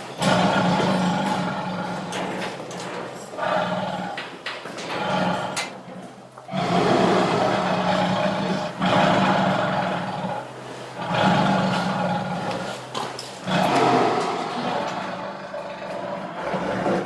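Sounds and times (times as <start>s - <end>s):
tiger growling and roaring: 0.0s - 17.0s.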